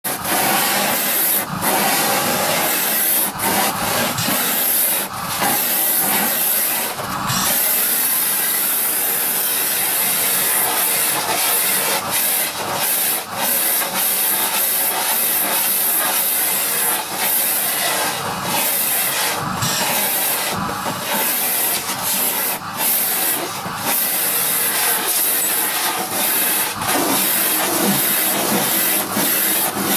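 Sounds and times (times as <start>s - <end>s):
vacuum cleaner running: 0.0s - 29.9s.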